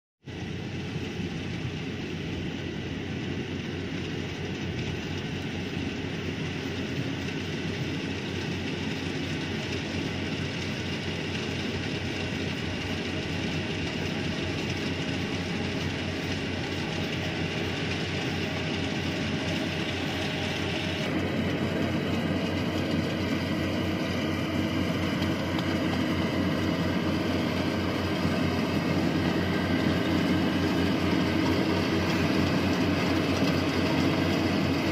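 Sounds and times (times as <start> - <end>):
combine harvester engine drone: 0.2 - 34.9.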